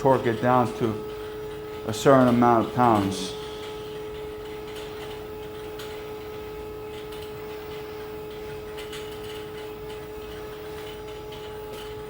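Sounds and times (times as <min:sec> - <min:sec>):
mechanical equipment humming: 0:00.0 - 0:12.0.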